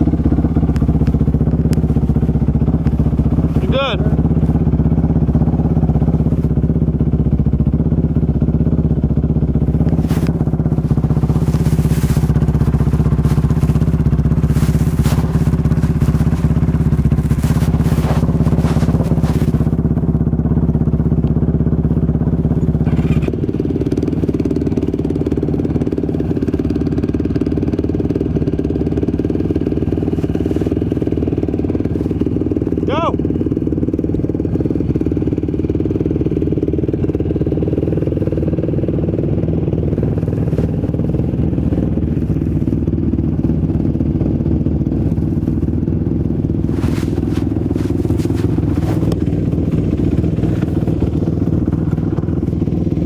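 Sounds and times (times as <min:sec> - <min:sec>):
off-road motorcycle engine running: 0:00.0 - 0:53.0.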